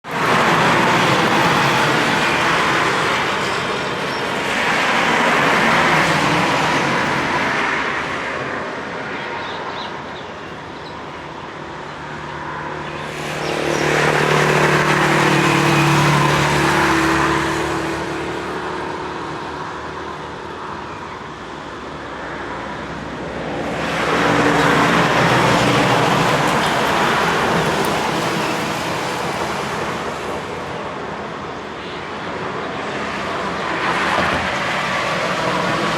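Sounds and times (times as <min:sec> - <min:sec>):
cars and trucks passing: 0:00.0 - 0:35.9
steady traffic hum: 0:00.0 - 0:35.9.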